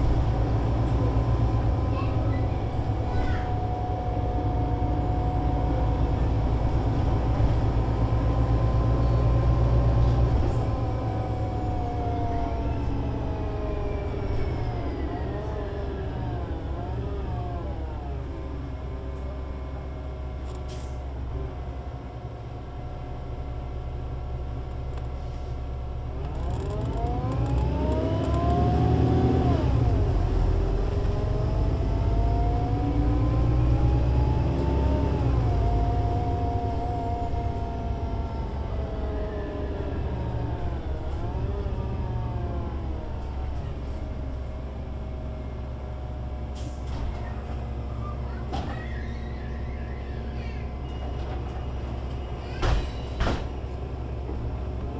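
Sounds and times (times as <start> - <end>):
bus engine and gearbox whine: 0.0 - 54.9.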